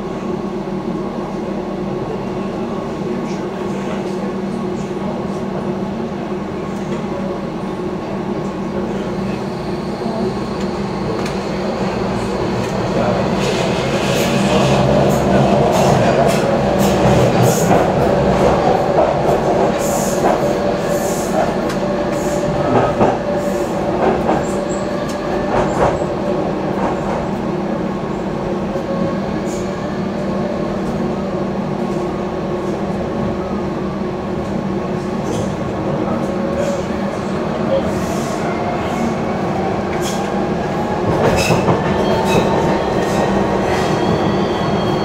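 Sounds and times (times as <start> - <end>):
train rumble and hum: 0.0 - 45.0.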